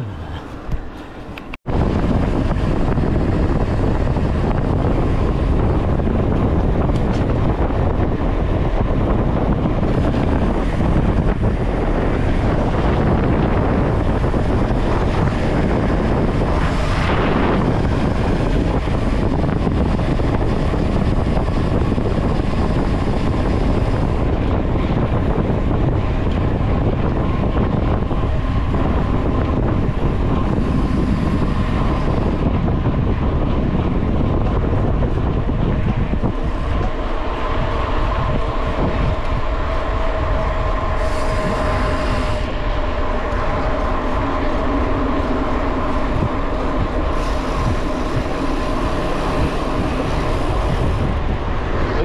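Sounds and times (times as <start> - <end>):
vehicle road noise: 0.0 - 52.0
wind buffeting microphone: 0.0 - 52.0.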